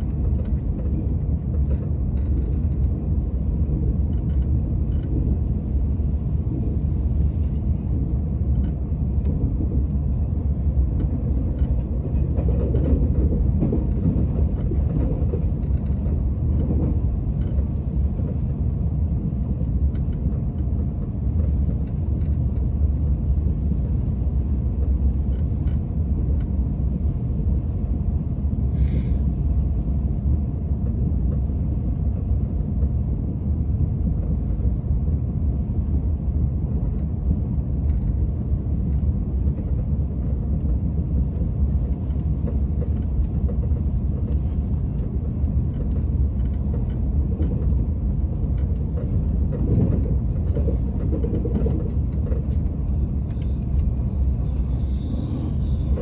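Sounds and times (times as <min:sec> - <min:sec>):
train rumble from inside car: 0:00.0 - 0:56.0.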